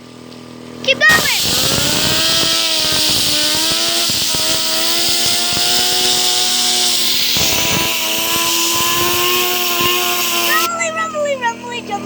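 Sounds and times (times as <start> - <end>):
fidget spinner whine: 0.9 - 10.7
compressed air hissing: 1.0 - 10.7.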